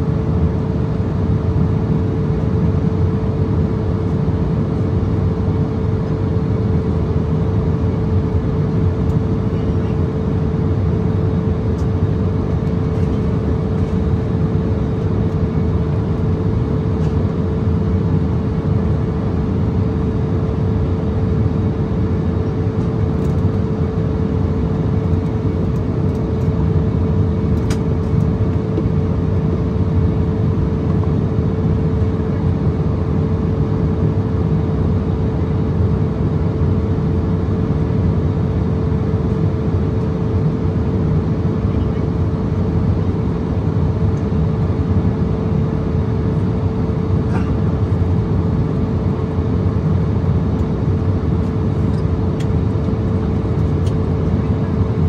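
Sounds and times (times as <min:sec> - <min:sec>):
airflow and jet engine rush: 0:00.0 - 0:55.0
constant low hum: 0:00.0 - 0:55.0.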